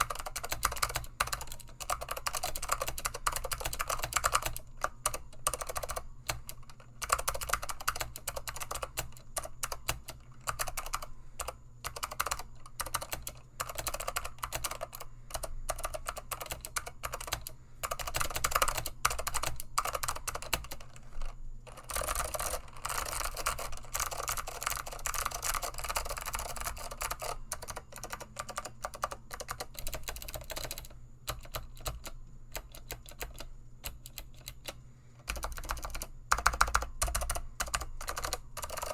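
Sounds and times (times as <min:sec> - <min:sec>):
fast clicky keyboard typing: 0:00.0 - 0:38.9.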